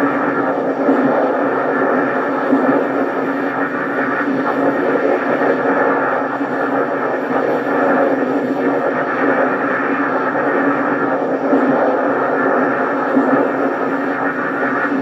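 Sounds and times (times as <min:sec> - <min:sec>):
electronic hum from speaker: 0:00.0 - 0:15.0.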